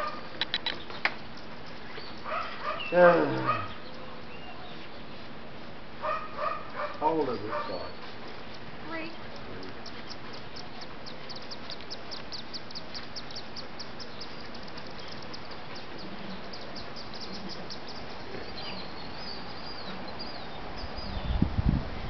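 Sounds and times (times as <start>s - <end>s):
bird high chirps: 0.0s - 5.2s, 6.0s - 21.4s
background hiss: 0.0s - 22.0s.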